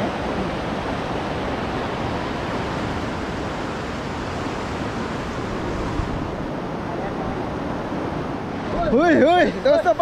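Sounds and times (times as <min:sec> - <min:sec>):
fast-flowing river rushing: 0:00.0 - 0:10.0.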